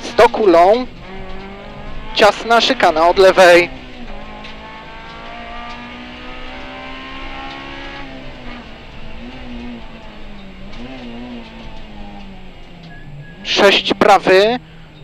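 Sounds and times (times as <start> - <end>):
car engine at high revs: 0.0 - 15.0
road noise: 0.0 - 15.0.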